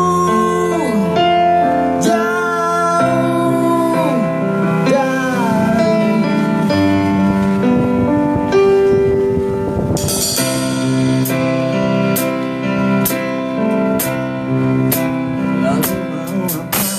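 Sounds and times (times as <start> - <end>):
keyboard chords: 0.0 - 16.9.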